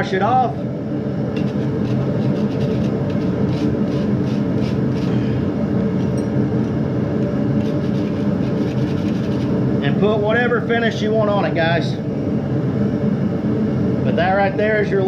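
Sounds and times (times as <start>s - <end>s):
gas forge burner roaring: 0.0s - 15.0s.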